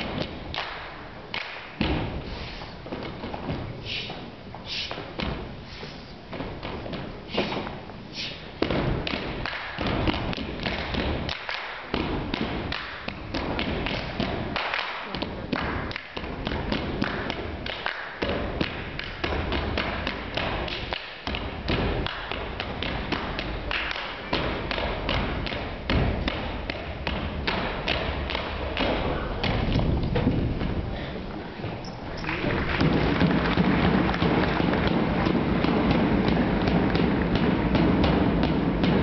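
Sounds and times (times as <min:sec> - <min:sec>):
feet stamping on wooden stage: 0:00.0 - 0:39.0.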